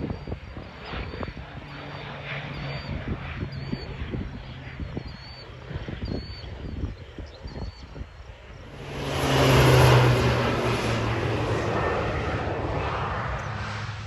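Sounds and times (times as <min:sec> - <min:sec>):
propeller aeroplane passing over: 0:00.0 - 0:14.0.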